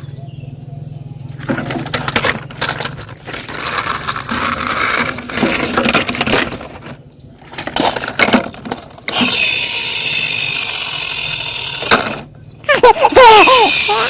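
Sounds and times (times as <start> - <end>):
toys clattering and rattling: 1.3 - 14.0.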